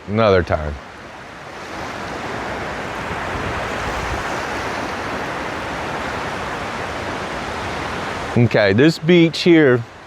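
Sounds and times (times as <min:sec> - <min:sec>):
surf washing onto beach: 0:00.0 - 0:10.0.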